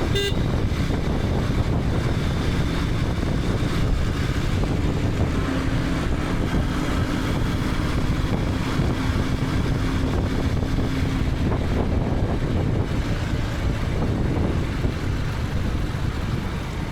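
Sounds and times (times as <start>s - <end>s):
motorcycle engine running: 0.0s - 16.9s
wind noise: 0.0s - 16.9s.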